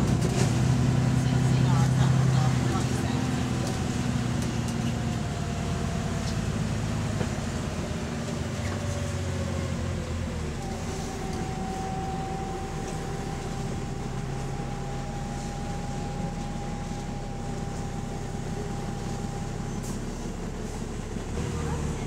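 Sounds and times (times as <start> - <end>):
bus engine droning with whine: 0.0 - 22.0.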